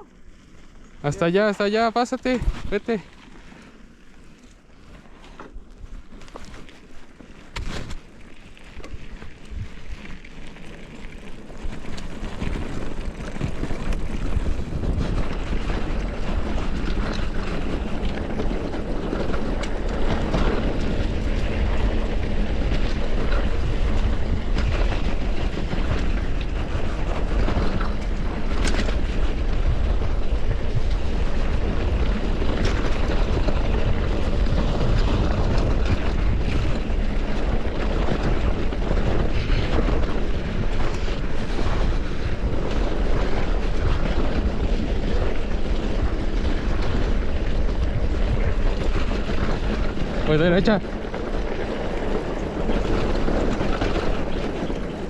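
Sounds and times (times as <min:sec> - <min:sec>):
bike tyre and trail noise: 0:00.0 - 0:55.0
wind rushing over microphone: 0:01.0 - 0:03.2, 0:11.3 - 0:55.0.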